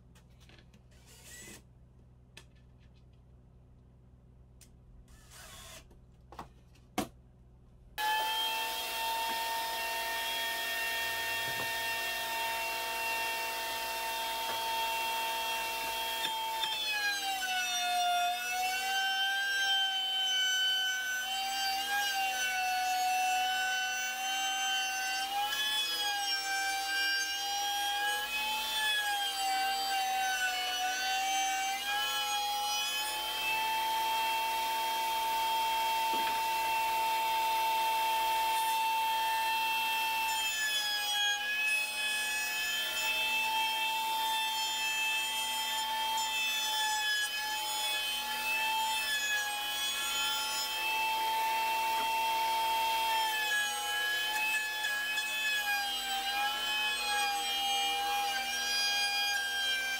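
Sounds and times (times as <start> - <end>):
router whining: 0.2 - 1.7, 5.1 - 6.0, 8.0 - 59.9.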